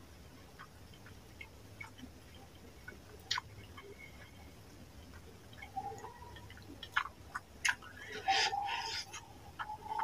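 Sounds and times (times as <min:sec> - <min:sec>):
soft wet squishes of food: 0:00.0 - 0:10.0.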